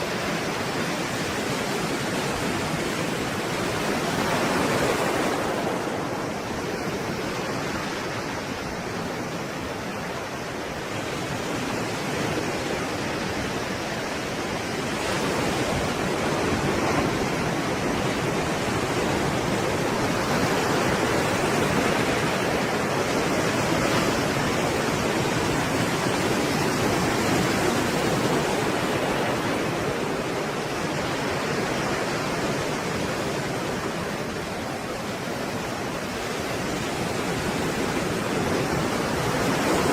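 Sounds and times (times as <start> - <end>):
stormy sea waves breaking: 0.0 - 39.9.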